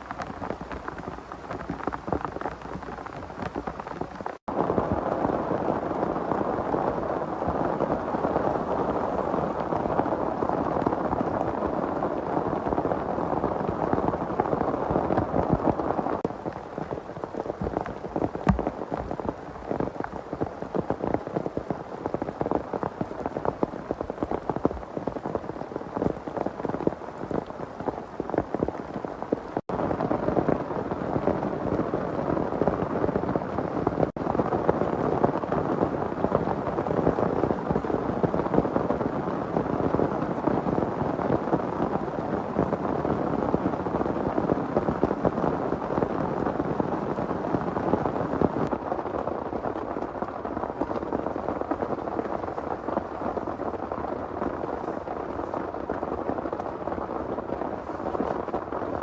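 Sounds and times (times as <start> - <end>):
heavy rain hissing: 0.0 - 48.8
sharp raindrops striking: 0.0 - 59.0.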